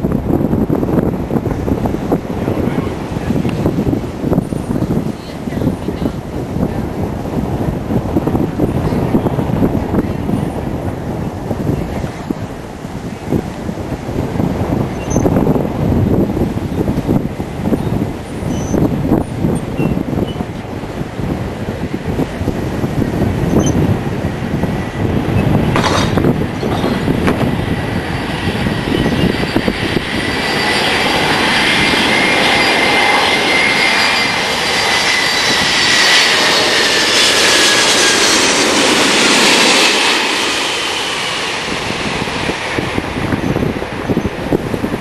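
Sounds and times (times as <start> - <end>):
jet engines whining overhead: 0.0 - 45.0
wind buffeting microphone: 0.0 - 45.0.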